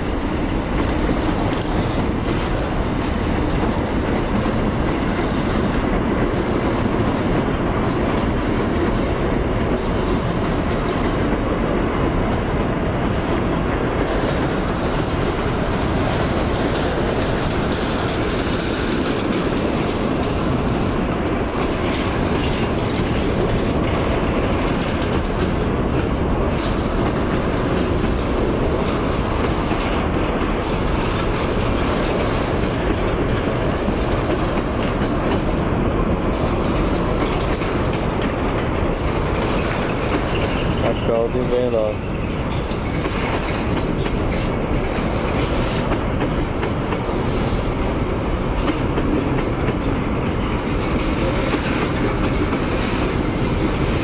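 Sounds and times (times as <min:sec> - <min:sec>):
train wheels rumbling on rails: 0:00.0 - 0:54.0
wheels clicking over rail joints: 0:00.0 - 0:54.0.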